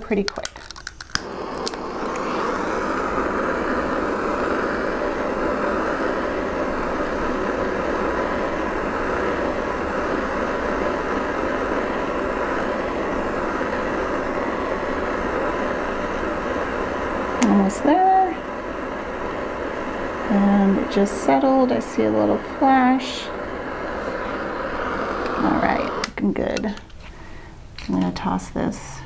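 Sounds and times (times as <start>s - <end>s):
soldering torch hissing: 0.0s - 27.6s.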